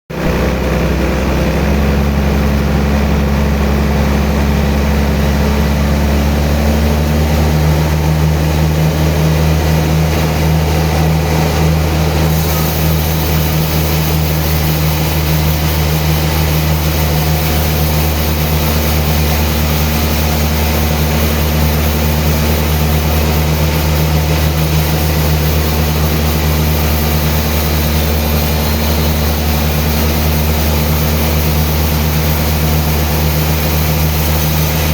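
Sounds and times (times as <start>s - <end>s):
sawmill engine droning: 0.1s - 34.9s.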